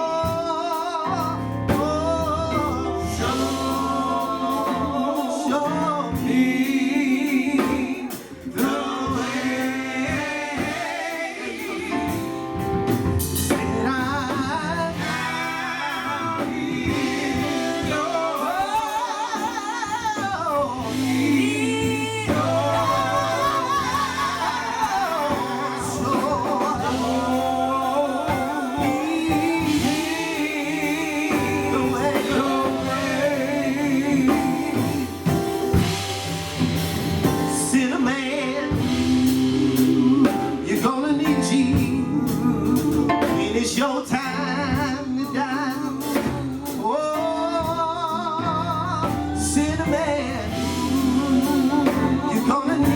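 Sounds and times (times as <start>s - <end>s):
gospel group singing: 0.0s - 52.9s
instrumental backing: 0.0s - 52.9s.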